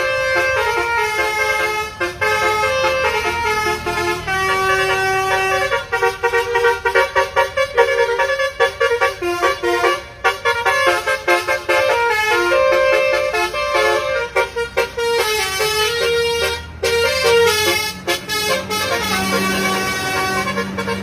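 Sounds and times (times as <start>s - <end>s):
musical air horn melody: 0.0s - 21.0s.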